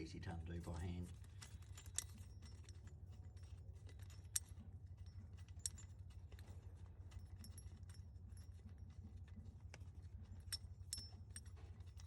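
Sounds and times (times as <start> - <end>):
low steady hum: 0.0 - 12.0
small metallic clicks and clinks: 0.6 - 12.0.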